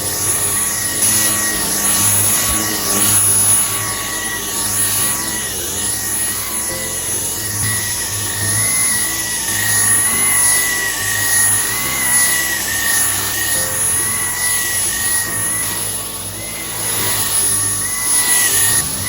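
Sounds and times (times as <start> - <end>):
soft background music: 0.0 - 19.0
vacuum cleaner running: 0.0 - 19.0.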